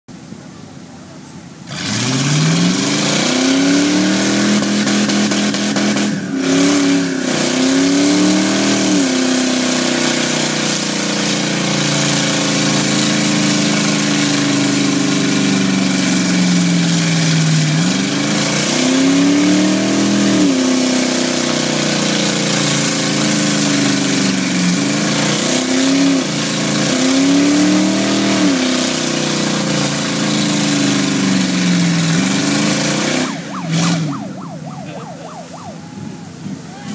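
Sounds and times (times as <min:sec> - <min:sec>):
car engine revving hard: 0:01.7 - 0:34.5.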